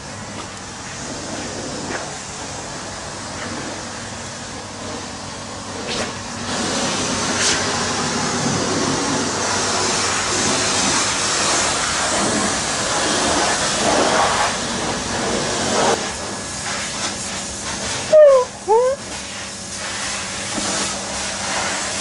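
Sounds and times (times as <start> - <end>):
pressure washer spraying: 0.9 - 22.0.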